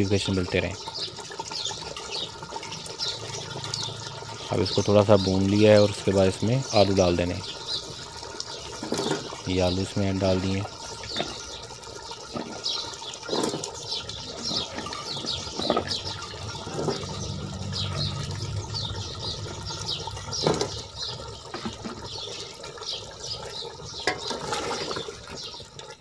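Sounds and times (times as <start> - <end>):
broth bubbling: 0.0 - 26.0.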